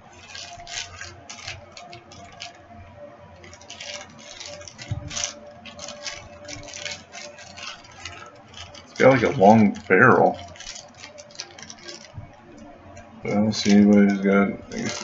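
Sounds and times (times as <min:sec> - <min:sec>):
cardboard and plastic rustling: 0:00.0 - 0:15.0.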